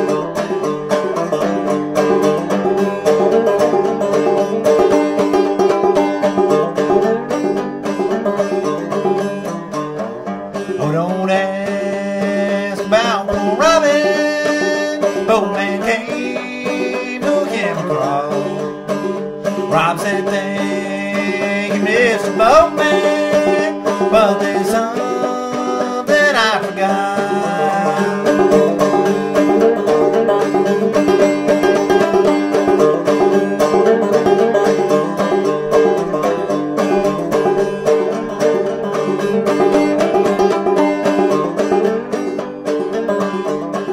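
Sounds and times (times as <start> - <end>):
banjo bluegrass tune: 0.0 - 43.9
sliding melody notes: 0.0 - 43.9.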